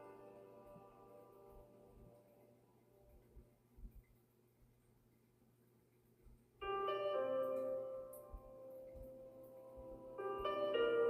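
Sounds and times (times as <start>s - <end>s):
ambient music with held tones: 0.0s - 11.0s.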